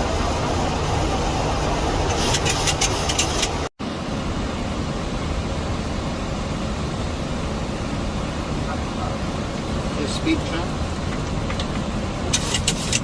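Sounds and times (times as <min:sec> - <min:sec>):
air-conditioning hiss: 0:00.0 - 0:13.0
airplane cockpit airflow rushing: 0:00.0 - 0:13.0.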